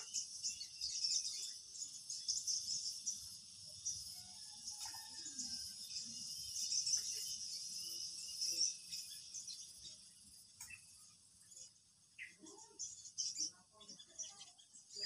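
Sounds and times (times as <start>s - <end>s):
insects chirping: 0.0s - 13.5s.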